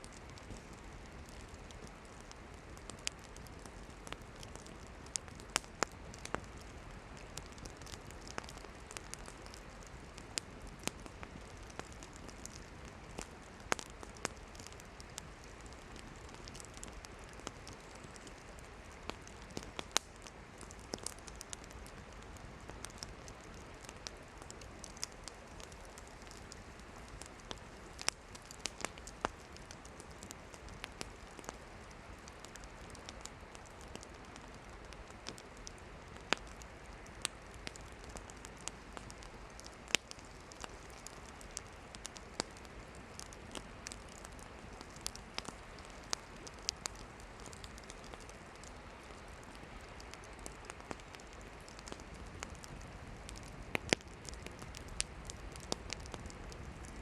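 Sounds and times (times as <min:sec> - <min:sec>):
campfire crackling and popping: 0:00.0 - 0:57.0
low hiss of flames: 0:00.0 - 0:57.0.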